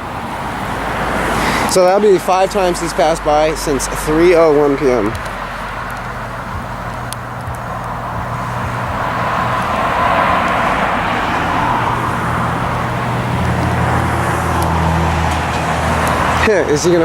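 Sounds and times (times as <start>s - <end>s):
small plane engine humming: 0.0s - 16.5s.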